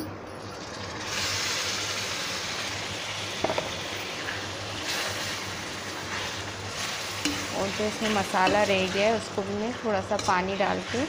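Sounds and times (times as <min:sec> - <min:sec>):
chicken sizzling in hot oil: 0:00.5 - 0:11.0.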